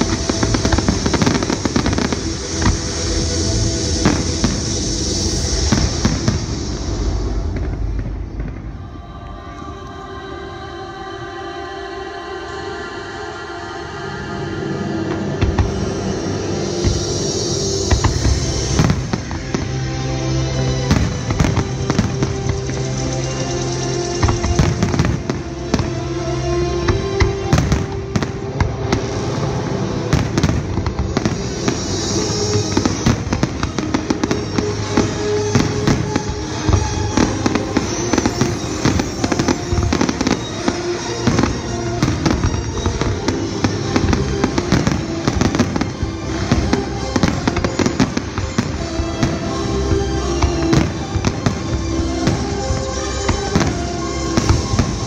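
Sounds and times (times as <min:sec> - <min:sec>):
music with held notes: 0:00.0 - 0:55.0.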